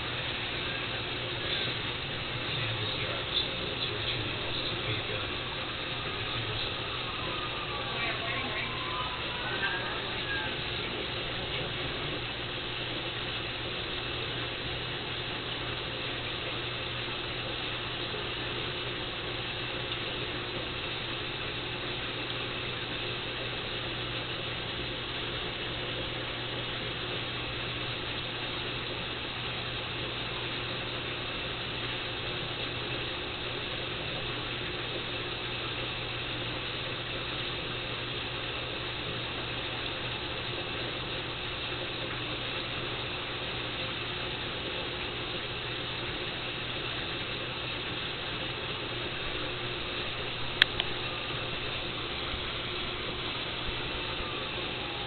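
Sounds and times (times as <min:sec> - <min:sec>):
aquarium equipment hum and hiss: 0:00.0 - 0:55.0.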